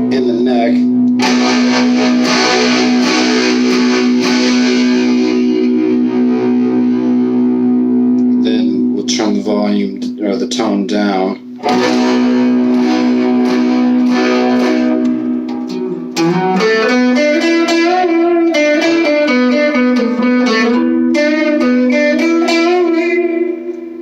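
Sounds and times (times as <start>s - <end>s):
electric guitar playing: 0.0s - 24.0s.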